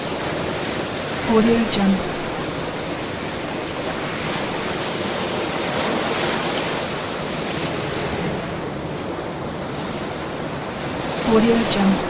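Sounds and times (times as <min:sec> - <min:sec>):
ocean surf breaking waves: 0:00.0 - 0:12.0.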